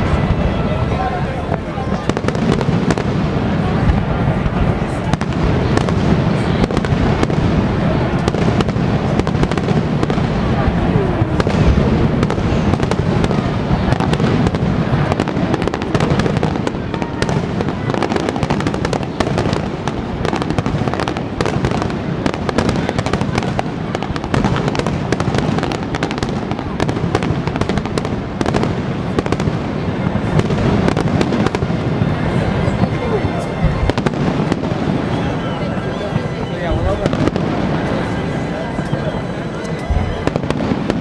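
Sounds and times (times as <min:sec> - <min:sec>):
fireworks bursts and crackling: 0:00.0 - 0:41.0.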